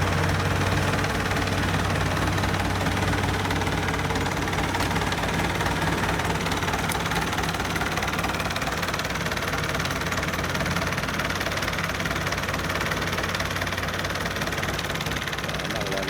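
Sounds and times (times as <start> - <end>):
diesel engine running steadily: 0.0 - 16.0.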